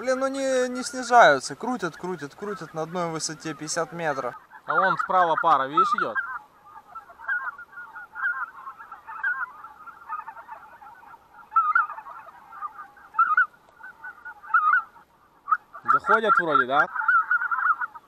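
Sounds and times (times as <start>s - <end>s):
geese calling: 0.0s - 18.0s.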